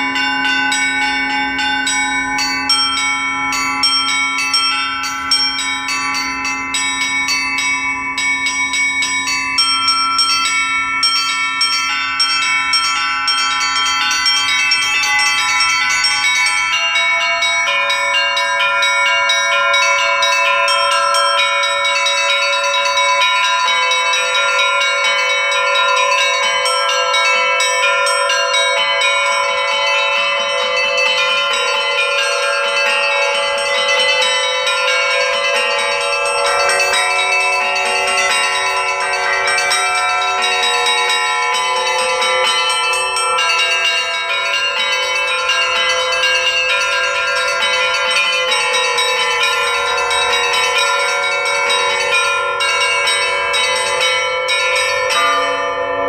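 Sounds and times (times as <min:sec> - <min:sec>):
hum of large bells: 0:00.0 - 0:56.0
lower bell striking: 0:00.0 - 0:56.0
small treble bells chiming: 0:00.0 - 0:56.0.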